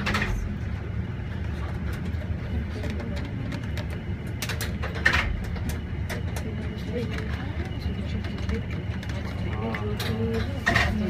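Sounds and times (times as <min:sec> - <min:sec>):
elevator car low rumble: 0:00.0 - 0:11.0.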